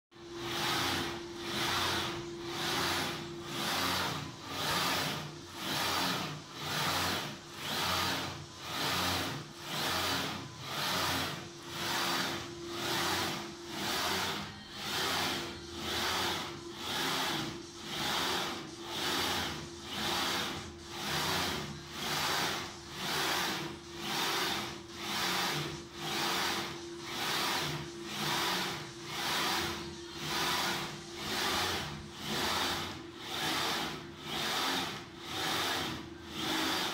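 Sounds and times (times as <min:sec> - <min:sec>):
steady motor hum: 0:00.1 - 0:36.9.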